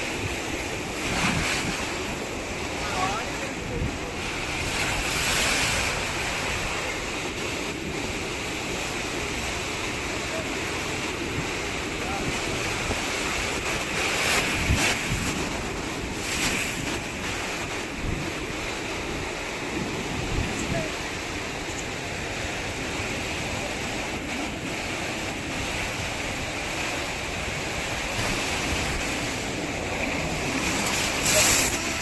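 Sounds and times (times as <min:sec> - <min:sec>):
ocean surf washing onto beach: 0:00.0 - 0:32.0
wind buffeting microphone: 0:00.0 - 0:32.0.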